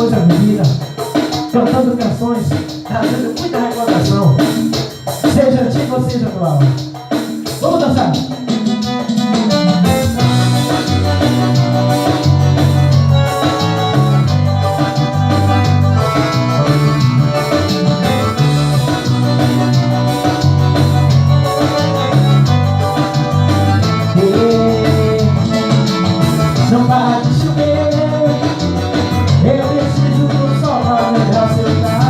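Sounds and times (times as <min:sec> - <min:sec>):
latin dance band playing: 0:00.0 - 0:32.0.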